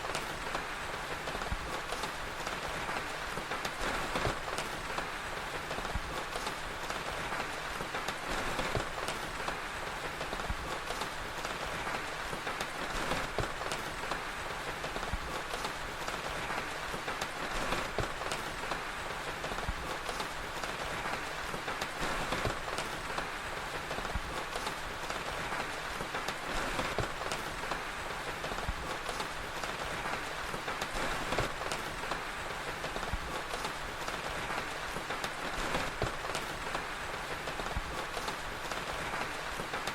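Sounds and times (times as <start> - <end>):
fire crackling and popping: 0.0 - 39.9
steady rain hiss: 0.0 - 39.9.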